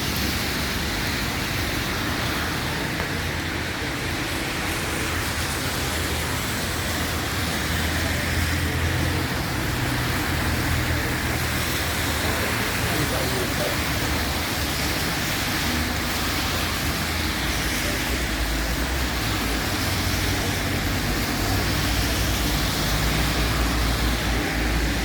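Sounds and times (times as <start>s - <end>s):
rain hiss: 0.0s - 25.0s
road traffic engine hum: 0.0s - 25.0s.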